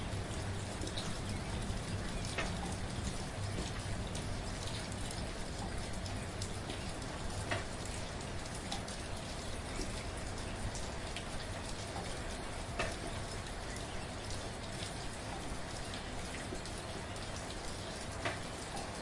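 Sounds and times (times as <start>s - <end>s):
gentle rain falling: 0.0s - 19.0s
raindrops ticking on a surface: 0.0s - 19.0s.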